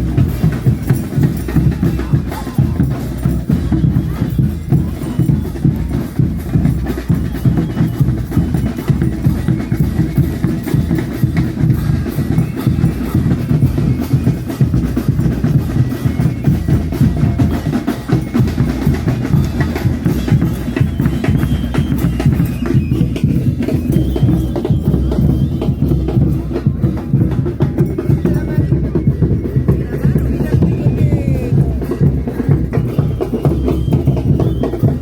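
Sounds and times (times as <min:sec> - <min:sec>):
bass drums beating: 0:00.0 - 0:35.0
hand cymbals: 0:00.0 - 0:35.0.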